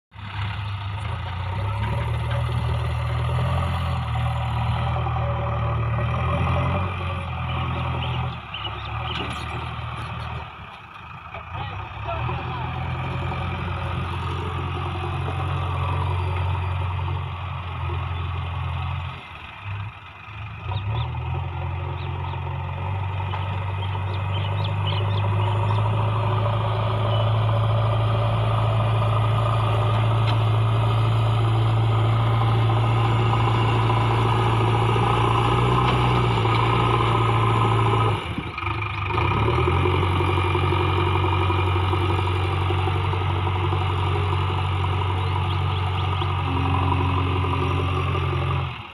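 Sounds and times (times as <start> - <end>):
diesel engine running: 0.1 - 48.9.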